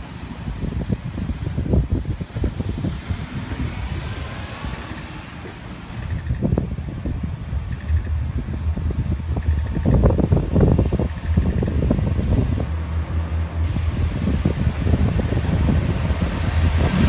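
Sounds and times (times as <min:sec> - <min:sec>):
diesel railcar engine: 0:00.0 - 0:17.0
wind buffeting microphone: 0:00.0 - 0:17.0.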